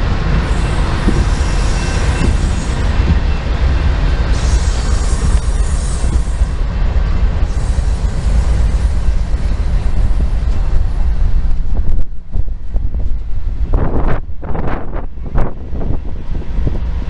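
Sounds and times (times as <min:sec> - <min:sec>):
locomotive engine rumble: 0:00.0 - 0:17.0
wheels running on rail: 0:00.0 - 0:17.0.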